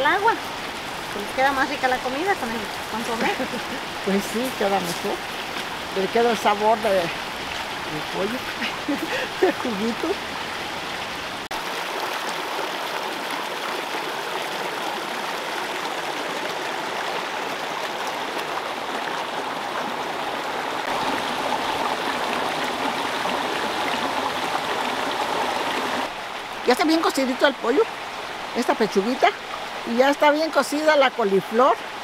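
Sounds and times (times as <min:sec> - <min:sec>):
stream flowing over rocks: 0:00.0 - 0:32.0.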